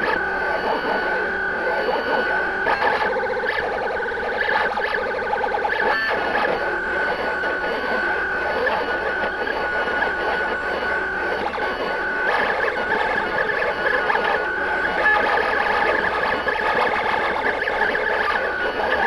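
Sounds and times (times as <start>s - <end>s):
vinyl cutter motors whining: 0.0s - 19.0s.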